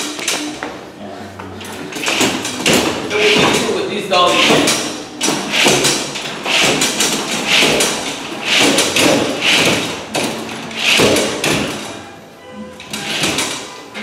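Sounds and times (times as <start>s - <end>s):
hand truck thudding on stairs: 1.6s - 12.1s, 12.8s - 14.0s.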